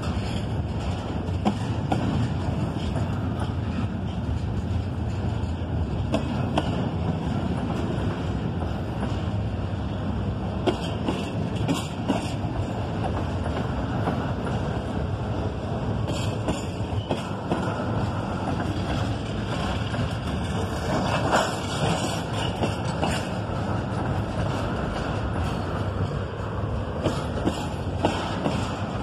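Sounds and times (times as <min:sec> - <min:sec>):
steel wheels rumbling on rail: 0:00.0 - 0:29.0.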